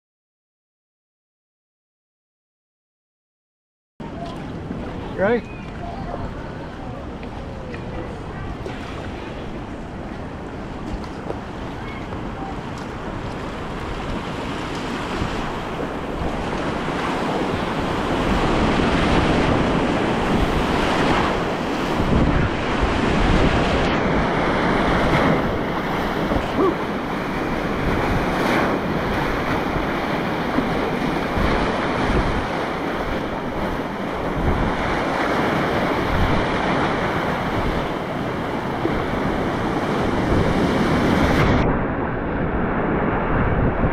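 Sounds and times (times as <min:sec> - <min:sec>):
whitewater rushing: 0:04.0 - 0:41.6.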